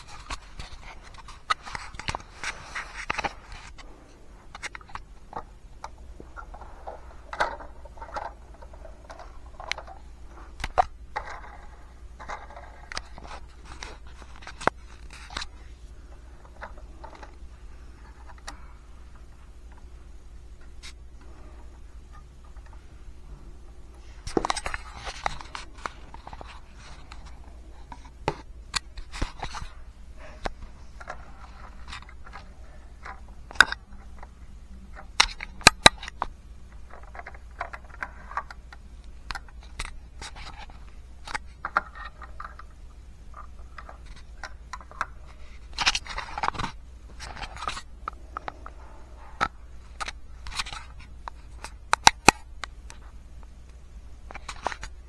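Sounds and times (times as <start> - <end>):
plastic parts clicking and tapping: 0.0 - 3.9, 4.5 - 19.9, 24.0 - 55.0
plastic parts scraping: 0.0 - 19.9, 20.6 - 53.5, 54.2 - 55.0.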